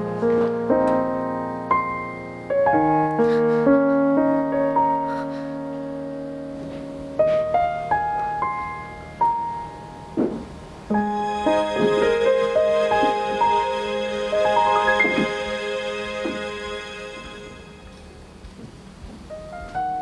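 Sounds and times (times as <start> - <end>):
slow gentle solo piano: 0.0 - 15.6, 18.5 - 20.0.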